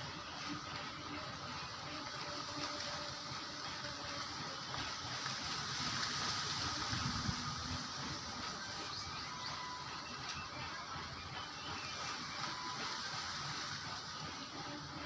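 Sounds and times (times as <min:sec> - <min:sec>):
running water splashing: 0:00.0 - 0:15.0.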